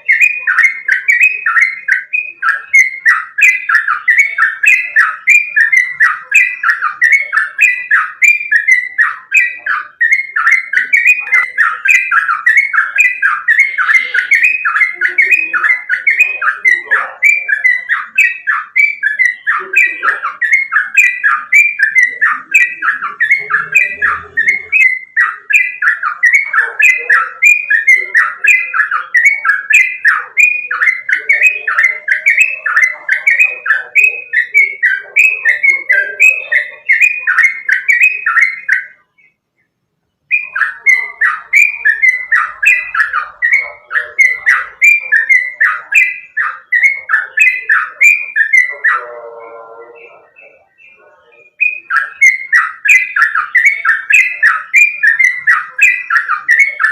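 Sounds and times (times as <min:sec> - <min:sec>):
bird singing bubbly whistled notes: 0:00.0 - 0:39.4, 0:40.2 - 0:56.9.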